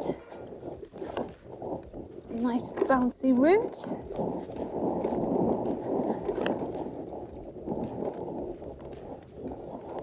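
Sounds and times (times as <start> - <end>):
bicycle rumbling and rattling: 0.0 - 10.0
wind buffeting microphone: 0.0 - 10.0.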